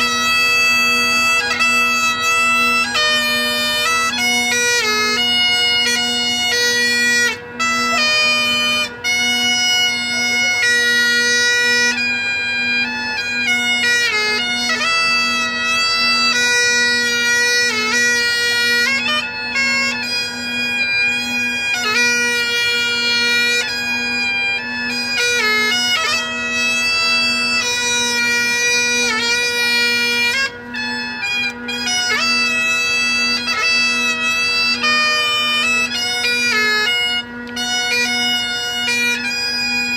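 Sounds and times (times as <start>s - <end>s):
bagpipe chanter melody: 0.0s - 39.9s
bagpipe drone: 0.0s - 39.9s.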